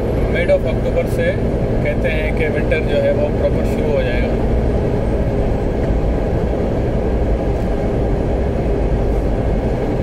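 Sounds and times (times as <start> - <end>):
road and wind noise: 0.0 - 10.0
truck engine drone: 0.0 - 10.0.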